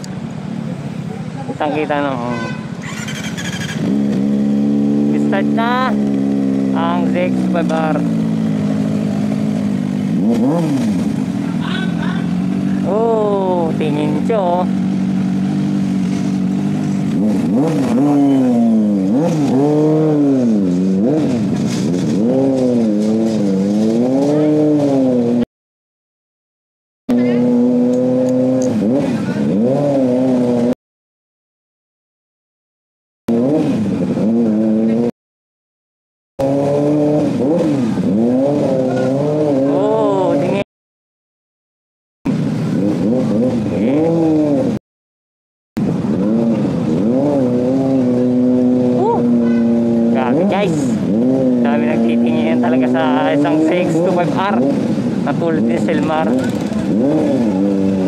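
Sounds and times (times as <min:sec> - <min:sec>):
motorcycle engine revving: 0:00.0 - 0:25.5, 0:27.1 - 0:30.8, 0:33.3 - 0:35.1, 0:36.4 - 0:40.7, 0:42.3 - 0:44.8, 0:45.8 - 0:58.0.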